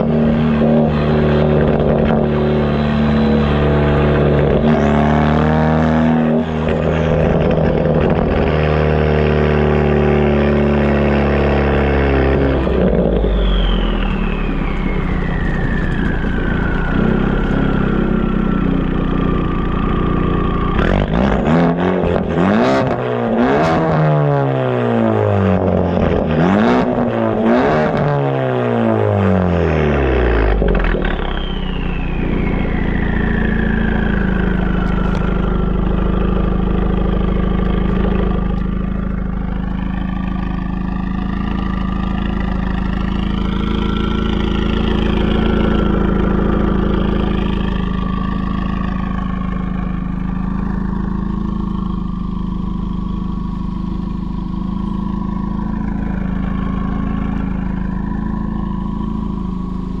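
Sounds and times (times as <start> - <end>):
car engine idling: 0.0 - 60.0
high whine: 0.0 - 60.0.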